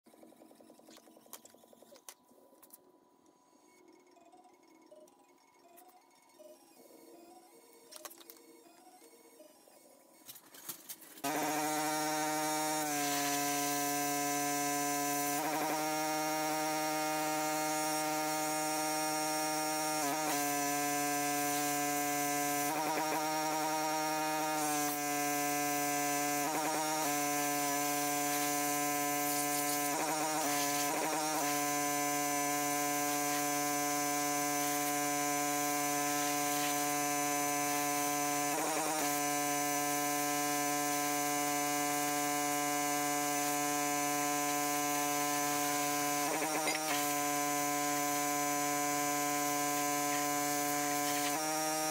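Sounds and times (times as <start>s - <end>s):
pressure washer buzzing drone: 10.4s - 51.9s.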